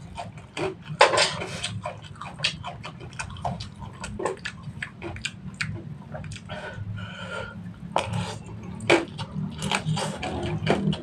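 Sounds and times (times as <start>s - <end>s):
man chewing noodles: 0.0s - 11.0s
steady low hum: 0.0s - 11.0s.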